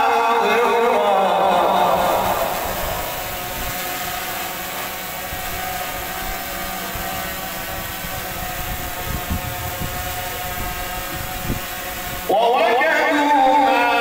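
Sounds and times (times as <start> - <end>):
sound system hiss and hum: 0.0 - 14.0.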